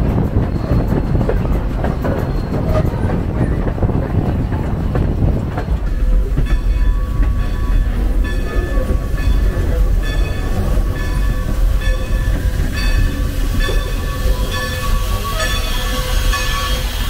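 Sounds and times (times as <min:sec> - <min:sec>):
steam locomotive rumbling: 0:00.0 - 0:17.0
wheels clicking over rail joints: 0:00.0 - 0:17.0.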